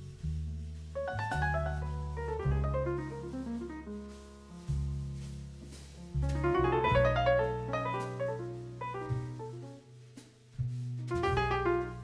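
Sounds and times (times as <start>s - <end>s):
double bass notes: 0.0s - 12.0s
jazz piano run: 0.0s - 12.0s.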